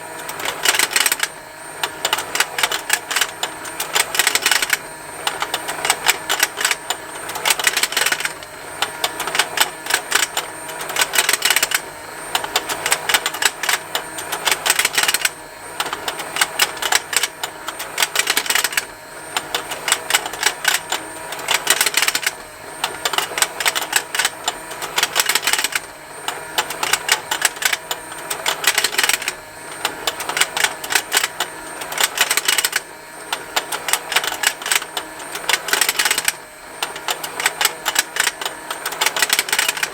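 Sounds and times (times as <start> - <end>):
toy motor plastic ticking: 0.2 - 39.9.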